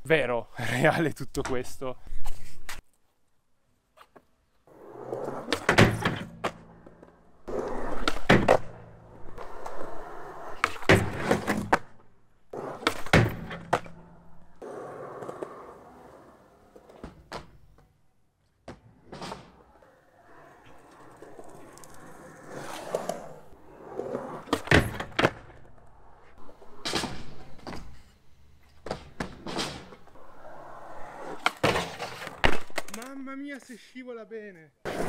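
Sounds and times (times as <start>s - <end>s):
skateboard wheels rolling on concrete: 0.6s - 33.8s.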